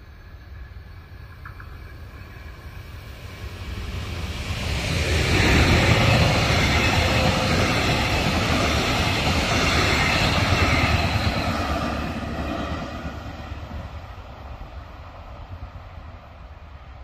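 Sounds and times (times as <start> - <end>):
diesel locomotive engine: 0.0 - 17.0
train wheels rumbling on rails: 0.0 - 17.0.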